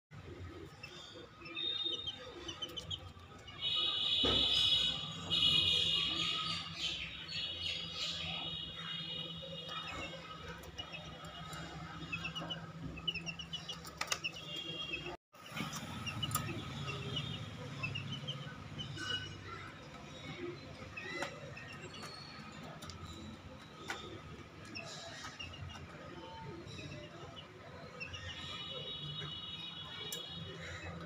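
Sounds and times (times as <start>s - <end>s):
chicks peeping: 0.2s - 29.4s.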